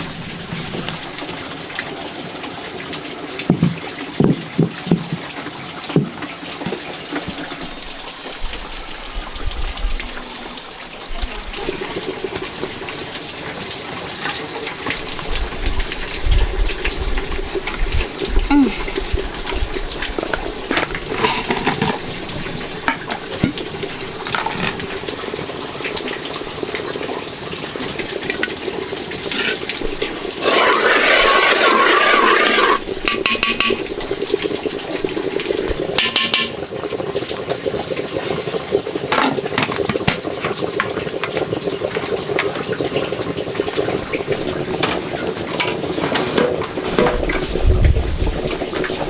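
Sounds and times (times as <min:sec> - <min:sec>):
liquid pouring and splashing: 0:00.0 - 0:49.0.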